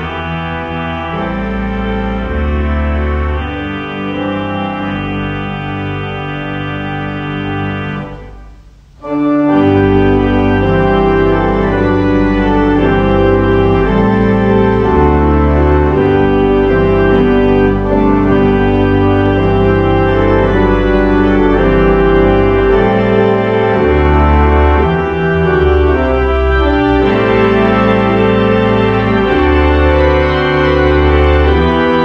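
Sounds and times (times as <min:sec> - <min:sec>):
organ playing hymn chords: 0:00.0 - 0:32.0.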